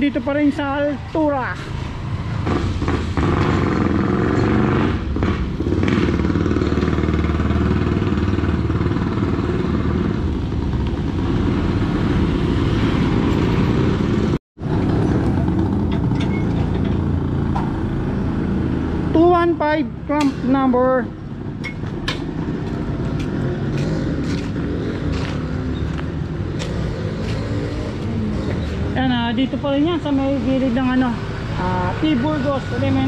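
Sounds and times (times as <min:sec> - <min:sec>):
vehicles rumbling on street: 0:00.0 - 0:33.0.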